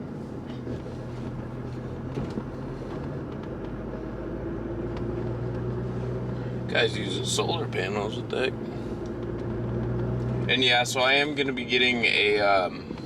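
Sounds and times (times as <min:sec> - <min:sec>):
car engine while driving: 0:00.0 - 0:13.0.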